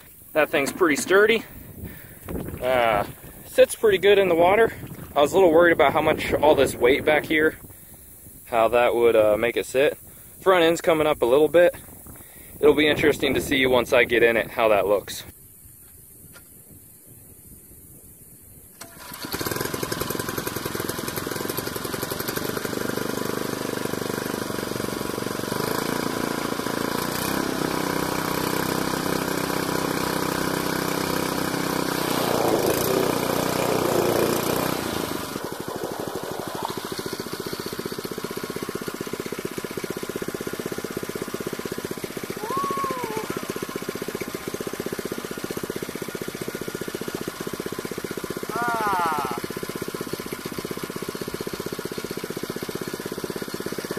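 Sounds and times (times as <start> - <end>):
small engine idling: 0.0 - 16.7, 18.6 - 53.9.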